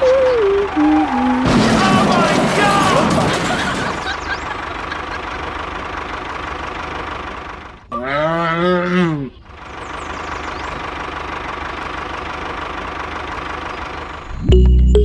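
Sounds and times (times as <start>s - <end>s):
tractor engine running: 0.0s - 7.9s, 9.4s - 15.0s.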